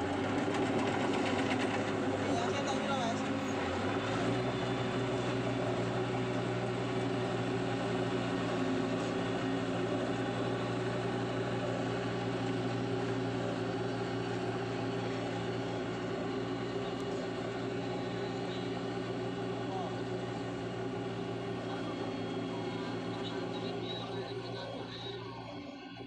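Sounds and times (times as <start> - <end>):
heavy machinery engine running: 0.0 - 26.0.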